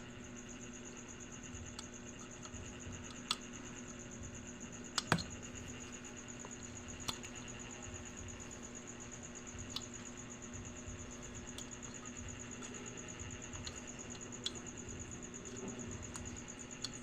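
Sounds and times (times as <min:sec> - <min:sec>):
electrical hum with high whine: 0:00.0 - 0:17.0.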